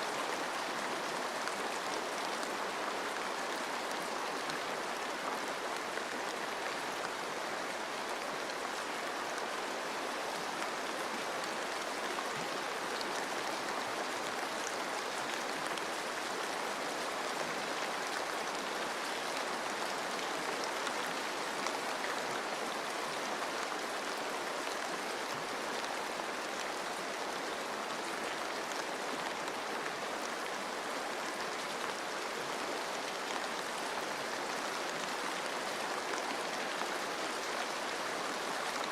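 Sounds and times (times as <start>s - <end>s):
running stream water: 0.0s - 38.9s
steady rain: 0.0s - 38.9s.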